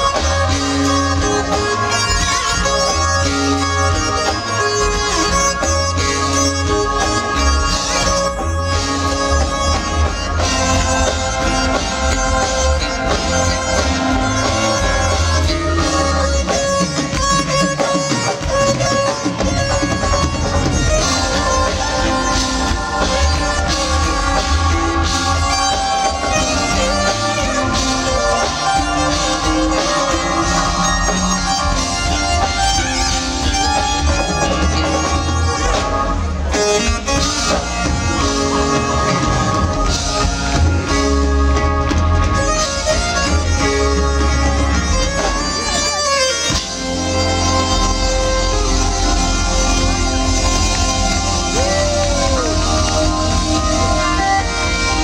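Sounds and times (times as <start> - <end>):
bass: 0.0 - 55.0
drums: 0.0 - 55.0
guitar lead line: 0.0 - 55.0
live funk band playing: 0.0 - 55.0.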